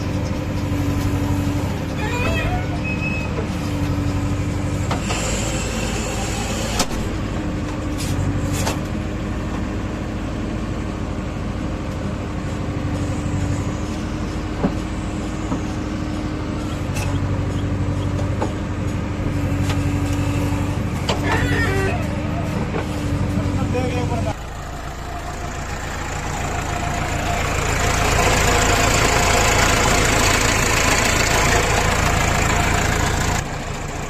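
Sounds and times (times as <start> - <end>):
diesel engine rumble: 0.0 - 34.0.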